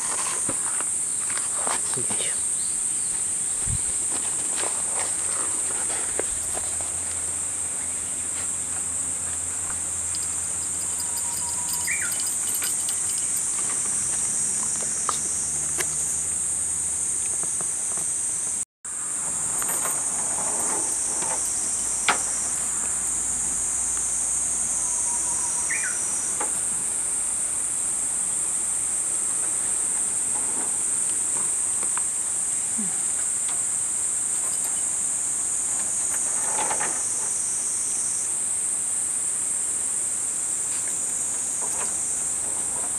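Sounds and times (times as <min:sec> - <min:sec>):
insects droning in chorus: 0:00.0 - 0:42.9.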